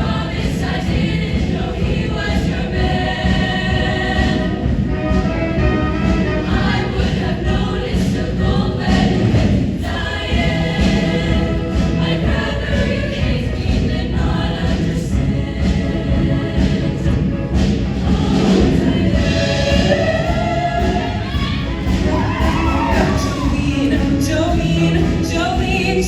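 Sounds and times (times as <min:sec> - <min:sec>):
choir singing: 0:00.0 - 0:26.0
instrumental accompaniment with beat: 0:00.0 - 0:26.0.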